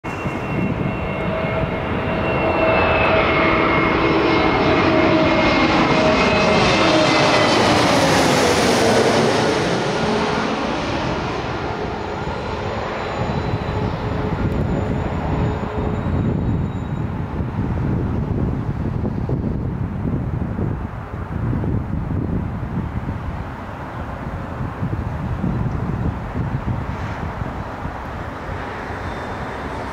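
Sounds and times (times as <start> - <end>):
jet airliner passing overhead: 0.0 - 29.9.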